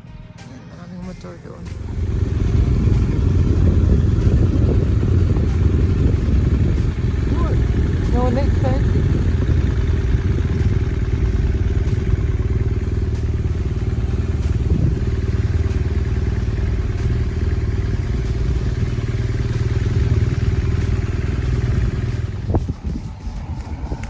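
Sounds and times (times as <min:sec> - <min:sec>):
motorcycle engine drone: 0:01.0 - 0:24.0.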